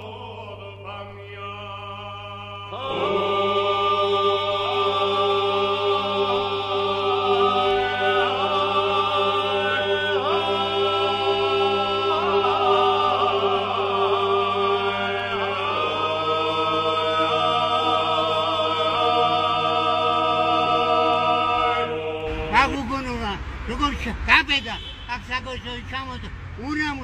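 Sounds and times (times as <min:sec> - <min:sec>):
choral chant over drone: 0:00.0 - 0:24.4.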